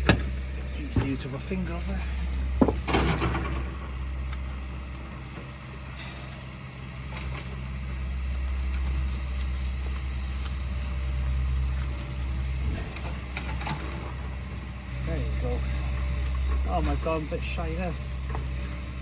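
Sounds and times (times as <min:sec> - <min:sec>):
heavy engine humming: 0:00.0 - 0:19.0.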